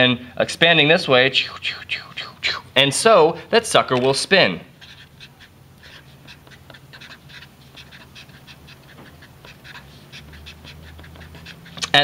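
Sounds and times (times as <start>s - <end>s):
marker scratching on paper: 1.4s - 2.6s, 3.3s - 12.0s.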